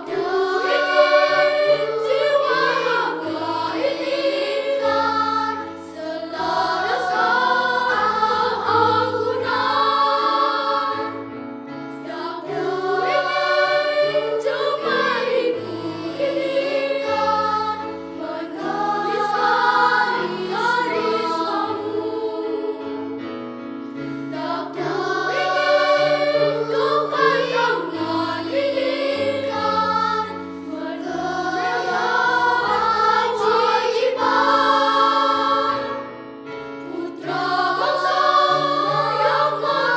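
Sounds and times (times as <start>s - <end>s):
children's choir singing: 0.0s - 23.4s, 24.0s - 39.9s.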